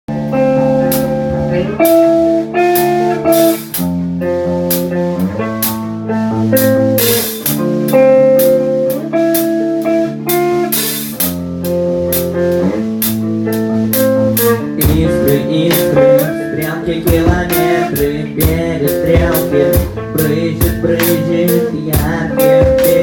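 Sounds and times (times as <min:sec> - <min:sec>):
bass: 0:00.0 - 0:23.0
guitar melody: 0:00.0 - 0:23.0
drum kit with cymbals: 0:00.1 - 0:23.0.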